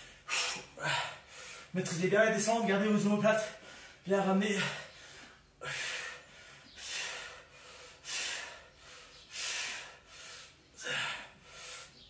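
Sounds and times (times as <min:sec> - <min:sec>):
man breathing hard: 0:00.0 - 0:01.8, 0:03.5 - 0:12.0.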